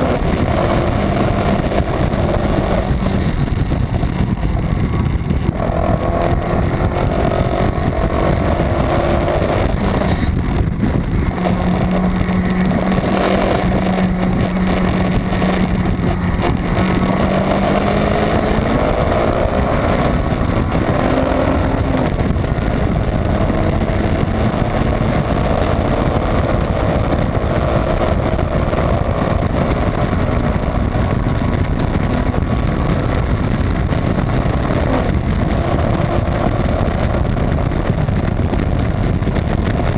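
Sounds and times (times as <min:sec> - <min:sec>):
car engine running hard: 0:00.0 - 0:39.9
road and wind noise: 0:00.0 - 0:39.9.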